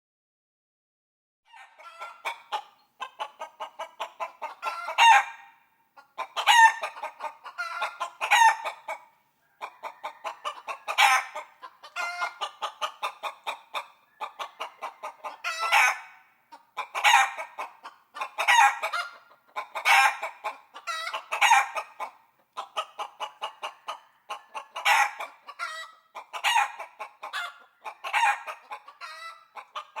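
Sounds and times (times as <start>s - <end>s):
rooster clucking: 1.5s - 30.0s.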